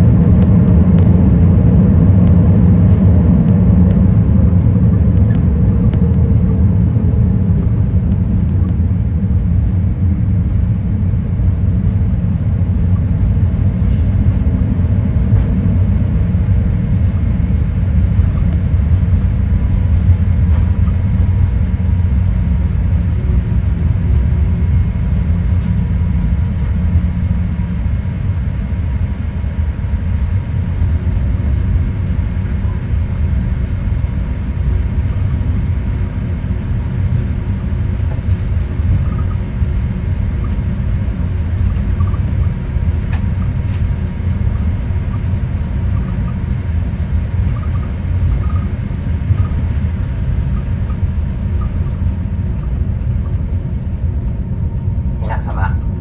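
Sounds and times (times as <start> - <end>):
airplane cabin low rumble: 0.0 - 56.0.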